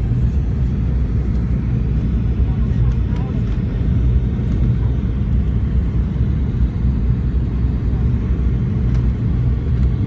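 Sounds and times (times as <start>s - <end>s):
jet engine rumble in cabin: 0.0s - 10.0s.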